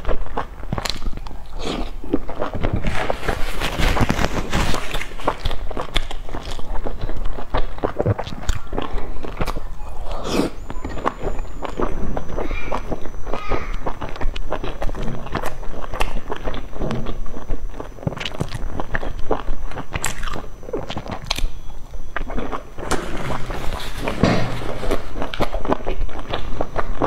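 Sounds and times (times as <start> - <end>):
biting and chewing food: 0.0 - 27.0.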